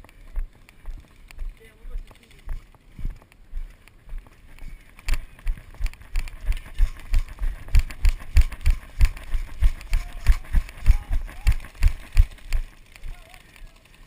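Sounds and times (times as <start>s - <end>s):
footsteps walking and running: 0.0s - 13.8s.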